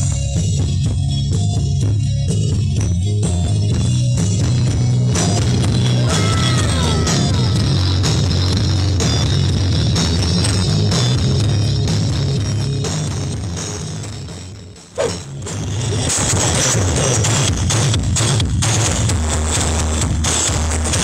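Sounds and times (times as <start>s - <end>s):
bass-heavy music over speakers: 0.0s - 21.0s.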